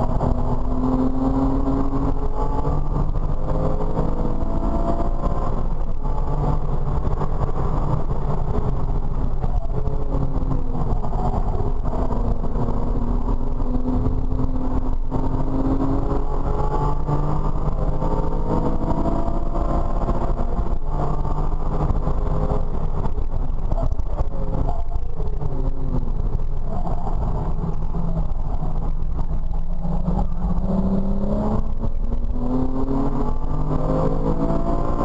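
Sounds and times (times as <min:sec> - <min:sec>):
car engine revving: 0:00.0 - 0:35.0
road and wind noise: 0:00.0 - 0:35.0.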